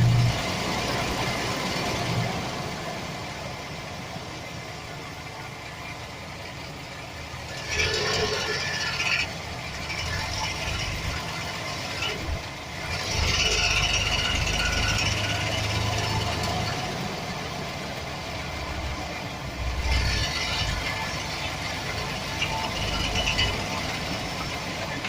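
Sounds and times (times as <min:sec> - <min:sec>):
engine rattle: 0:00.0 - 0:25.0
engine running: 0:00.0 - 0:25.0.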